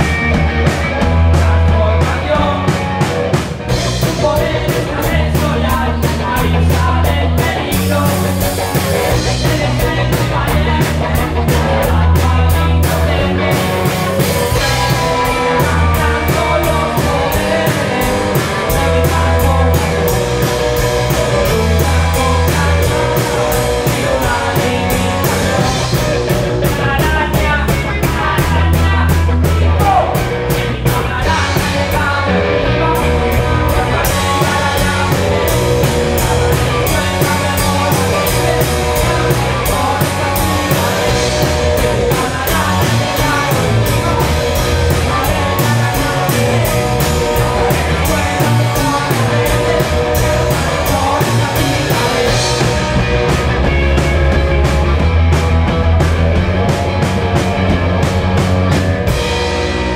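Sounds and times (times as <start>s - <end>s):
man singing: 0.0s - 54.0s
drum kit beat: 0.0s - 59.9s
electric bass: 0.0s - 59.9s
electric guitar: 0.0s - 59.9s.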